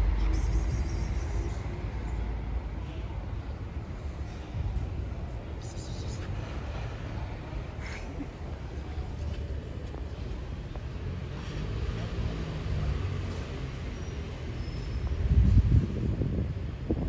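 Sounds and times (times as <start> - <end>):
faint engine hum: 0.0 - 17.0
low rumble of city traffic: 0.0 - 17.0.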